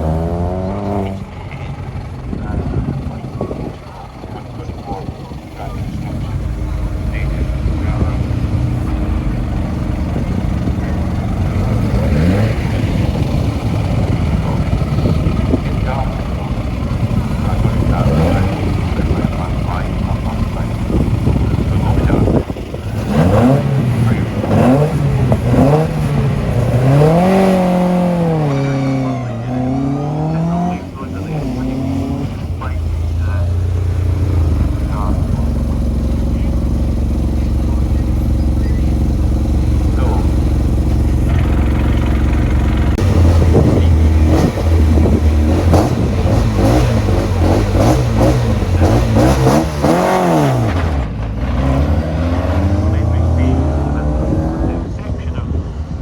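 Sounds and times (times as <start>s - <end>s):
rally car engine accelerating: 0.0s - 56.0s.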